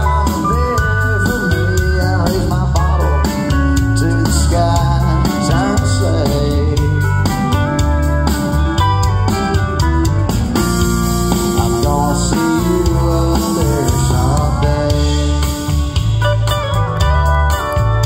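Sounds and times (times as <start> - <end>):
bass guitar: 0.0 - 18.0
drums: 0.0 - 18.0
electric guitar lead: 0.0 - 18.0.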